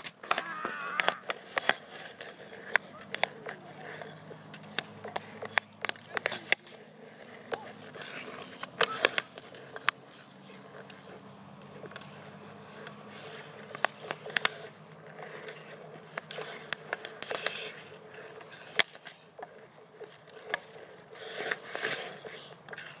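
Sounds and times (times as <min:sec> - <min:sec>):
skate blades scraping ice: 0:00.0 - 0:23.0.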